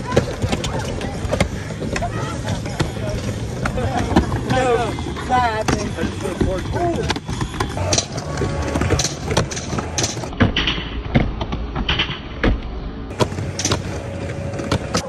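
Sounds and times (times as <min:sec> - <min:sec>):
skateboard wheels rumbling: 0:00.0 - 0:10.4, 0:13.1 - 0:15.0.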